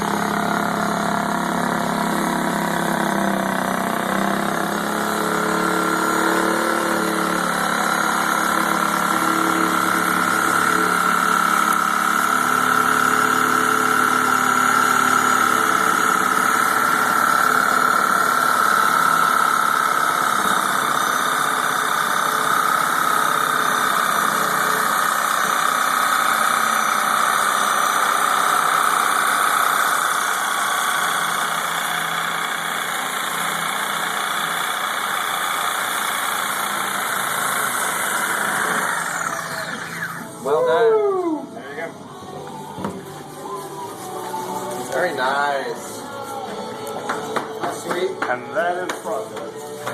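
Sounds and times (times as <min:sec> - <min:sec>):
reciprocating saw cutting: 0:00.0 - 0:41.9.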